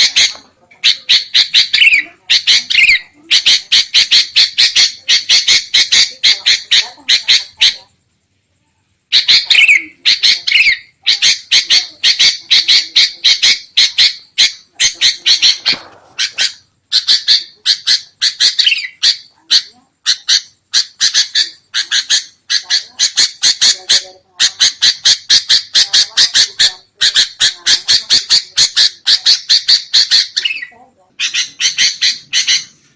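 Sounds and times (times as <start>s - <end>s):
birds scolding calls: 0.0s - 7.9s, 9.1s - 32.9s.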